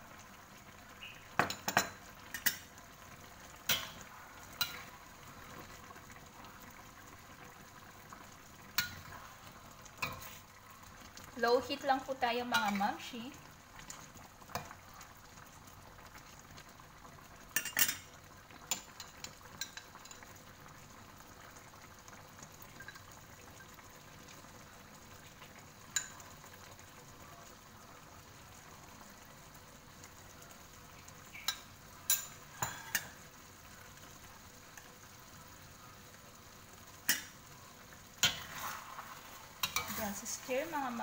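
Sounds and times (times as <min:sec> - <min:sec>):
stew sizzling and bubbling: 0:00.0 - 0:41.0.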